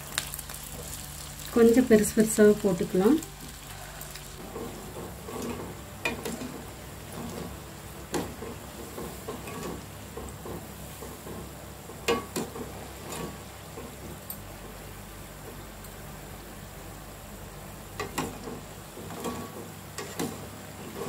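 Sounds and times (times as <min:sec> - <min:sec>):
batter sizzling in hot oil: 0:00.0 - 0:21.0.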